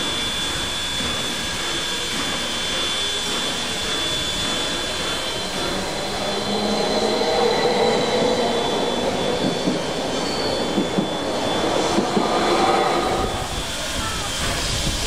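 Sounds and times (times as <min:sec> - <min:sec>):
train motor whine: 0:00.0 - 0:15.0
train wheels rumbling on rail: 0:00.0 - 0:15.0.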